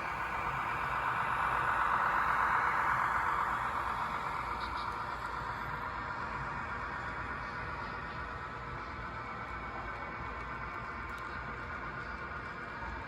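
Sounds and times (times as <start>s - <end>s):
model train rolling past: 0.0s - 13.0s.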